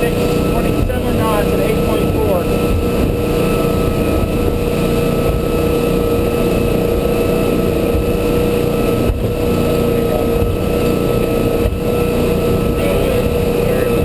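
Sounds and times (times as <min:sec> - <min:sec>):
boat engine low rumble: 0:00.0 - 0:14.0.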